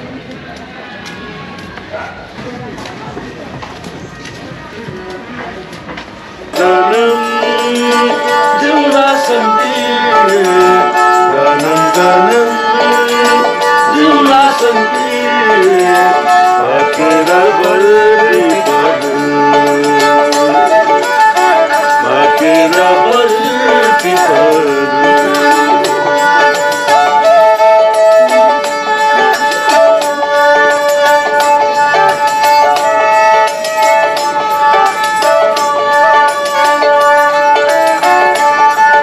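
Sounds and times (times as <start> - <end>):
bowed fiddles playing folk music: 3.1 - 39.0.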